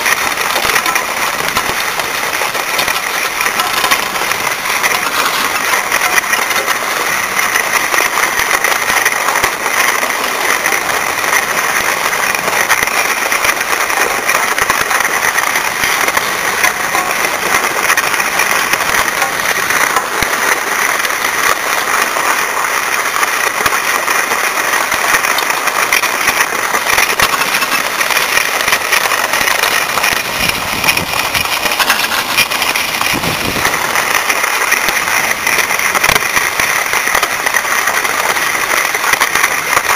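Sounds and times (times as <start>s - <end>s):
skis sliding over snow: 0.0s - 39.9s.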